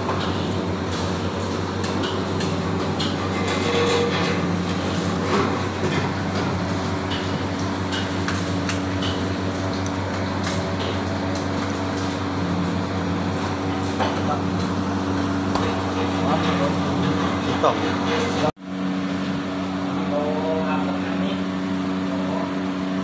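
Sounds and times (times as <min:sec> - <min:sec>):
kitchen machinery humming: 0:00.0 - 0:23.0.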